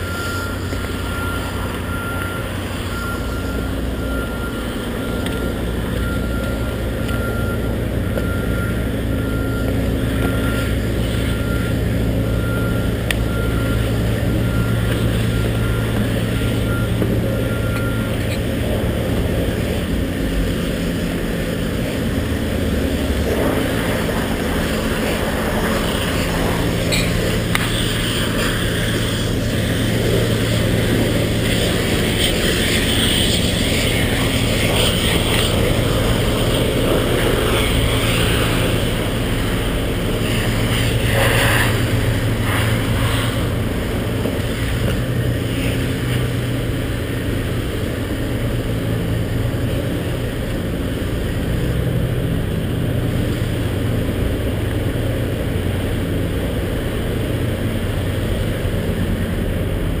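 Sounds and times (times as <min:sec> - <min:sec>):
engine drone: 0:00.0 - 1:00.0.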